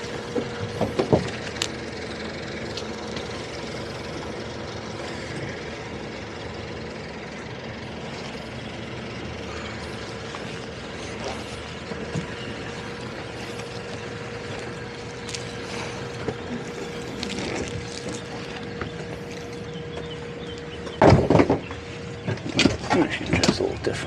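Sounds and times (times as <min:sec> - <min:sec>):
outboard motors idling: 0:00.0 - 0:24.0.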